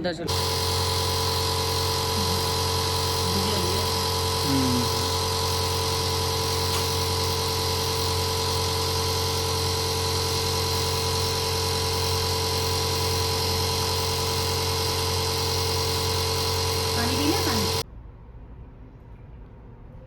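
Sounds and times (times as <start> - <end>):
small motor humming: 0.0 - 17.8.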